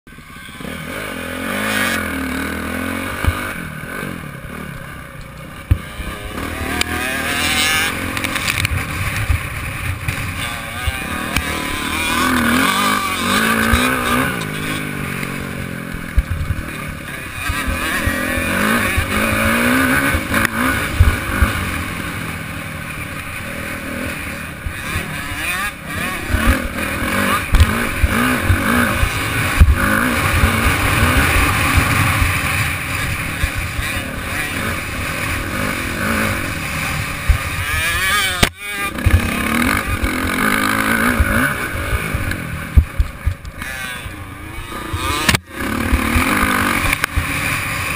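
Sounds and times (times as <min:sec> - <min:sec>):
motocross bike engine revving: 0:00.1 - 0:47.9.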